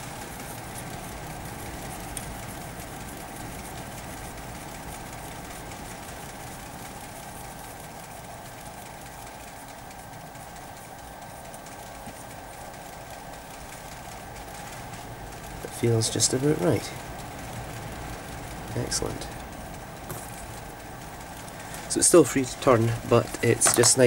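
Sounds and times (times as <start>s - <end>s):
faint high whine: 0.0s - 24.0s
machine hum: 0.0s - 24.0s.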